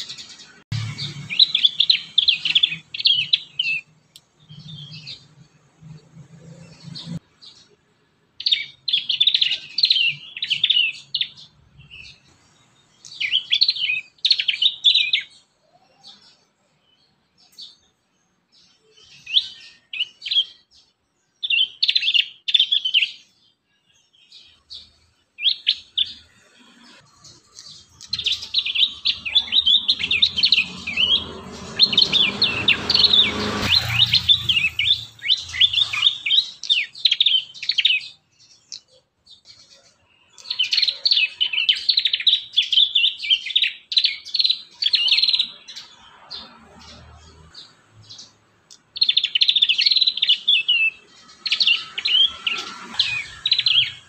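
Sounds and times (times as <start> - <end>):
young birds chirping: 0.0 - 54.0.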